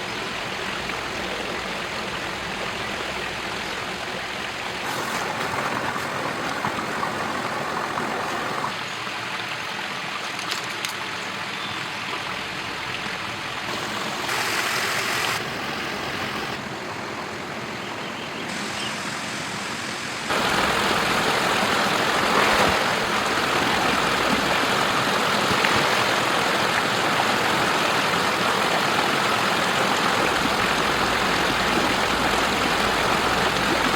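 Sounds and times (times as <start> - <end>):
waterfall and river rushing: 0.0 - 33.9.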